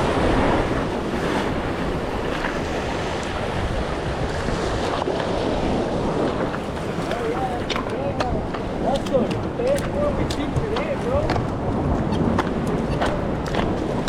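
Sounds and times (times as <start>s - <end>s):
surf washing against rocks: 0.0s - 14.0s
wind buffeting microphone: 0.0s - 14.0s.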